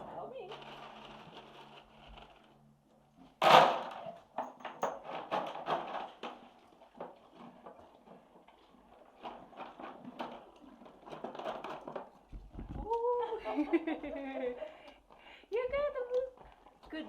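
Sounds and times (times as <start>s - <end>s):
horse crunching a treat: 0.0s - 13.1s, 14.8s - 17.0s.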